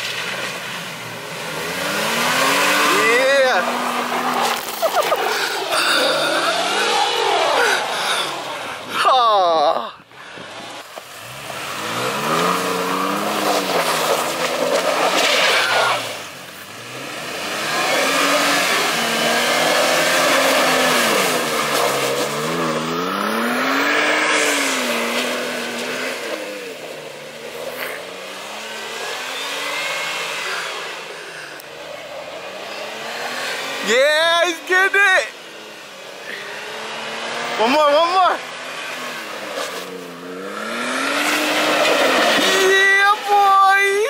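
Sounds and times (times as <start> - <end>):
vehicle engine revving: 0.0 - 9.0, 10.4 - 44.0
tyres churning snow: 0.0 - 44.0.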